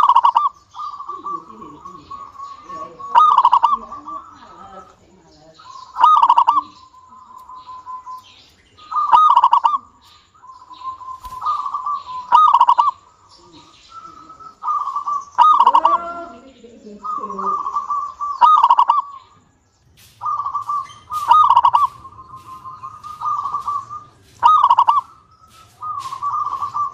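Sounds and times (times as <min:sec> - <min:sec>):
dove trilled cooing: 0:00.0 - 0:26.9
soft bird trills: 0:00.0 - 0:26.9.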